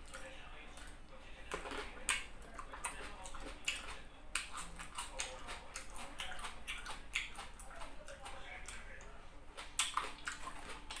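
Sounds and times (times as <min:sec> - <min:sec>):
wet chewing with lip smacks: 0:00.0 - 0:11.0.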